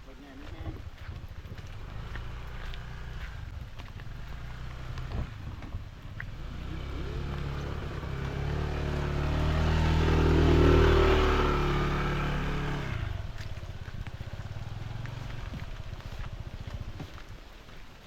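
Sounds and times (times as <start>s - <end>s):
vehicle engine passing by: 1.0s - 17.3s.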